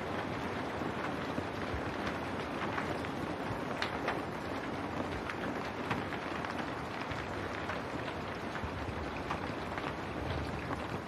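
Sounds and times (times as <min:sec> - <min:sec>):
rain pattering on window glass: 0:00.0 - 0:11.0.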